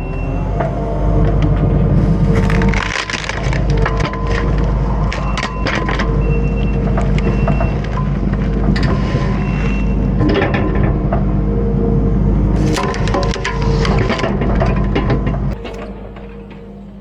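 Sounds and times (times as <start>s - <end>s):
diesel engine under load: 0.0s - 17.0s
roots and wood cracking: 0.2s - 11.4s, 12.4s - 16.8s.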